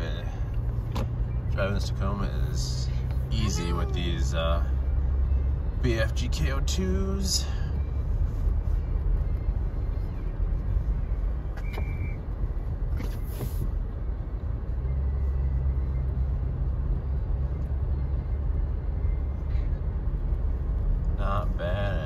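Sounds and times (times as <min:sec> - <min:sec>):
truck engine and tyres rumbling: 0:00.0 - 0:22.0.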